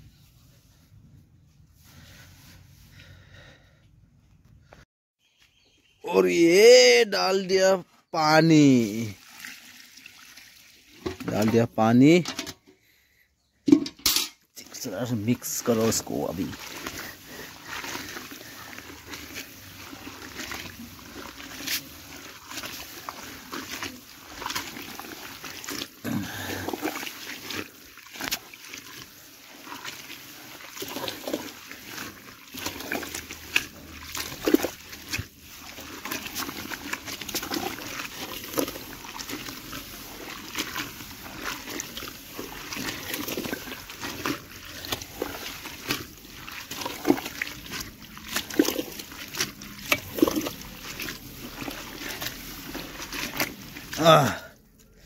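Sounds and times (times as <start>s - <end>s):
hand squelching wet leaves: 0.0s - 3.7s, 4.7s - 12.3s, 14.6s - 55.0s.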